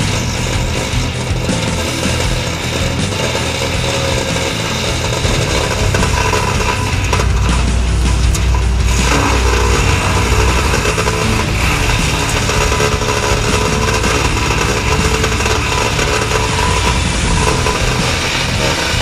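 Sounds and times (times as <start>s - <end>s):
wood chipper engine running: 0.0s - 19.0s.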